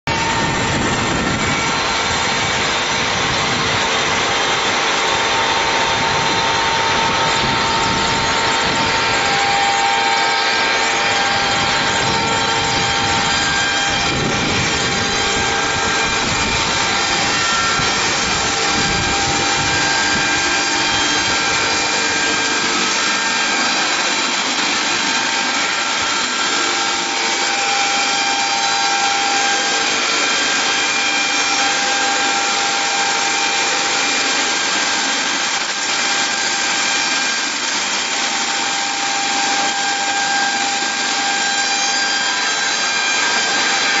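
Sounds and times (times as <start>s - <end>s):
chainsaw sawing through wood: 0.1s - 44.0s.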